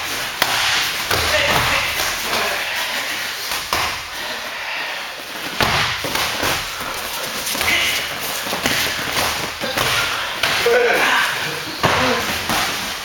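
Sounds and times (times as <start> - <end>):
footwork on mat: 0.0 - 13.0
steady background noise: 0.0 - 13.0.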